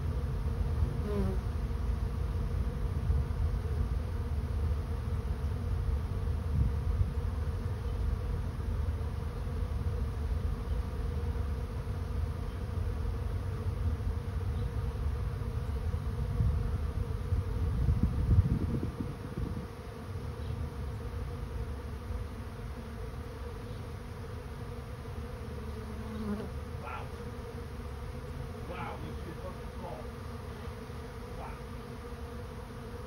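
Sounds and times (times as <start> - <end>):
bee swarm buzzing: 0.0 - 33.0.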